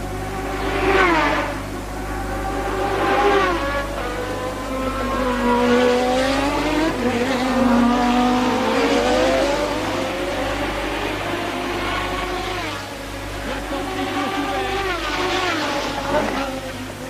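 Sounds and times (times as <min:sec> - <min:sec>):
race car engines at high revs: 0:00.0 - 0:17.0.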